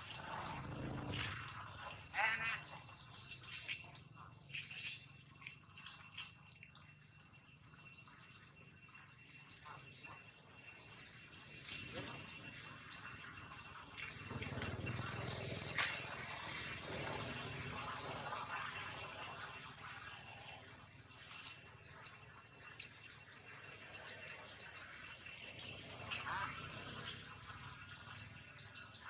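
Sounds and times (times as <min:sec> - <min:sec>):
bird chirping: 0:00.0 - 0:01.1, 0:02.2 - 0:06.9, 0:07.5 - 0:08.5, 0:09.1 - 0:10.2, 0:11.4 - 0:18.8, 0:19.7 - 0:26.4, 0:27.0 - 0:29.0
faint high whine: 0:00.0 - 0:29.0.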